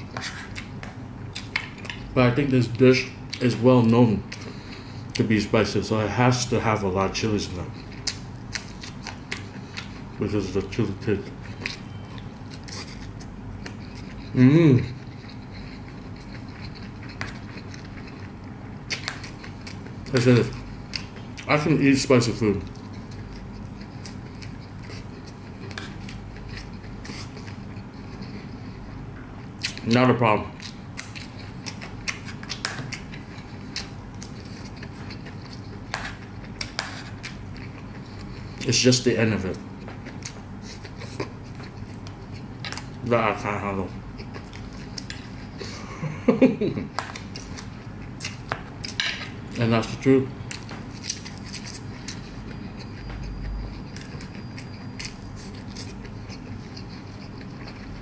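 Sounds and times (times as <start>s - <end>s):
eating clicks and smacks: 0.0s - 2.1s, 7.8s - 10.2s, 10.9s - 21.6s, 22.5s - 28.4s, 29.6s - 38.7s, 39.5s - 45.8s, 46.8s - 49.6s, 50.5s - 58.0s
person chewing: 0.0s - 5.3s, 6.0s - 58.0s.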